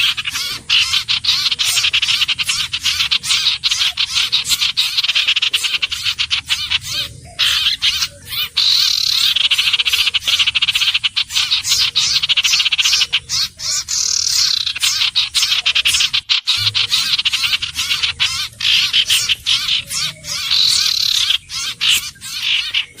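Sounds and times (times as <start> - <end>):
bird rasping trilled calls: 0.0 - 23.0.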